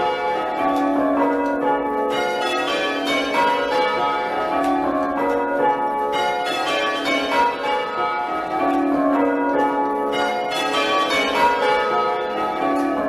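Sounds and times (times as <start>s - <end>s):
church bells change ringing: 0.0s - 13.0s.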